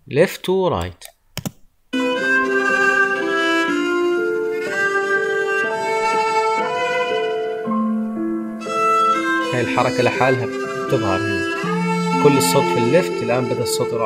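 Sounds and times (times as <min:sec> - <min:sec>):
music with sustained chords: 0:02.0 - 0:14.0.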